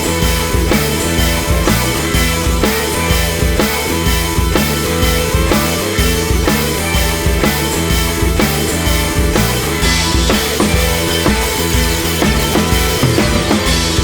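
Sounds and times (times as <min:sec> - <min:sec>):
rock music with drum beat: 0:00.0 - 0:14.0.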